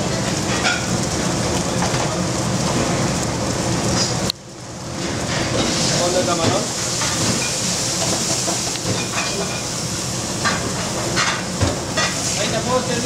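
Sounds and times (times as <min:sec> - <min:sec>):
food sizzling in pans: 0:00.0 - 0:13.0.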